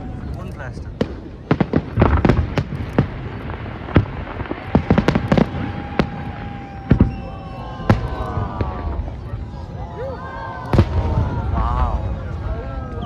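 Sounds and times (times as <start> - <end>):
firework whistling: 0.0 - 13.0
fireworks bangs: 0.0 - 13.0.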